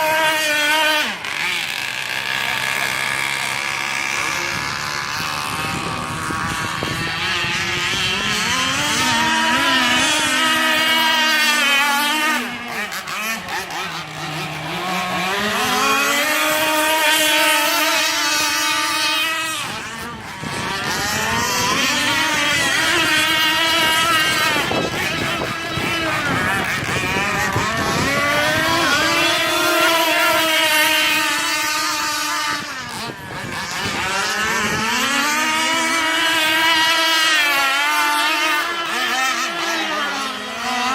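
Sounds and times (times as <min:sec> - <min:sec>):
model boat engine buzzing: 0:00.0 - 0:40.9.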